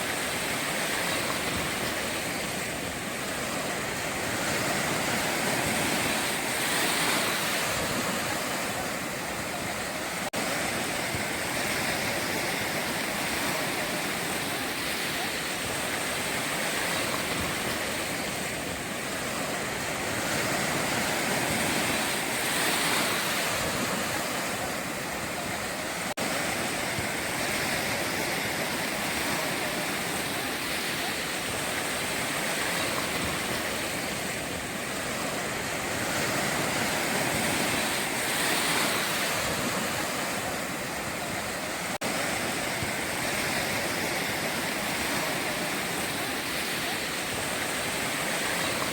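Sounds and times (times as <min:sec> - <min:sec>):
sea surf breaking on beach: 0:00.0 - 0:48.9.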